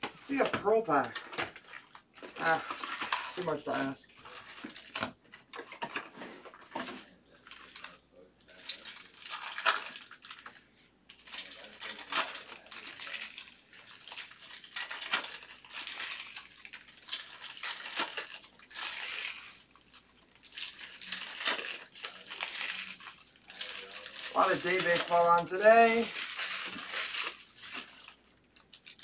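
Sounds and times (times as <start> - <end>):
foil wrappers crinkling and tearing: 0.0 - 29.0.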